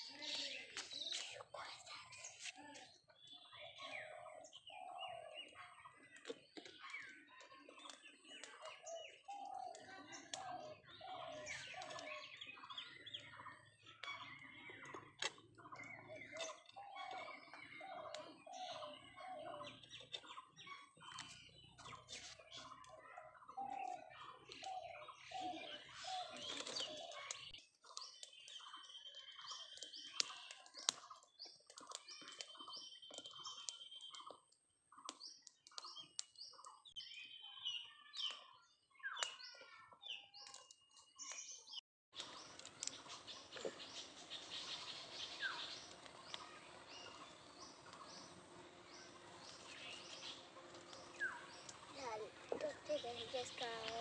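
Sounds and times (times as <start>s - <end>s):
birds chirping and calling: 0.0s - 54.0s.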